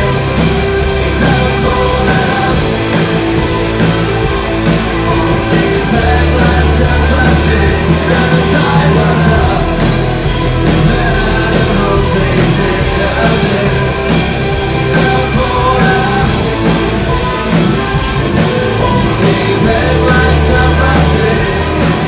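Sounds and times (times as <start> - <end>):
live rock band playing: 0.0 - 22.0
person singing: 0.0 - 22.0.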